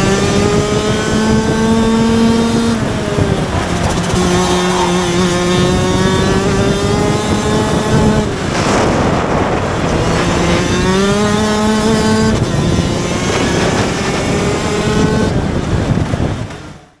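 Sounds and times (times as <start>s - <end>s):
kart engine revving: 0.0s - 16.8s.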